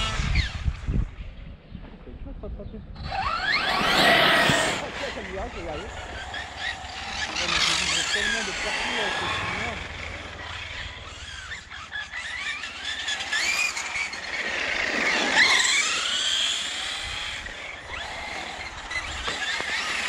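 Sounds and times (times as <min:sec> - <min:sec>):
radio-controlled car motor whining: 0:03.0 - 0:20.0.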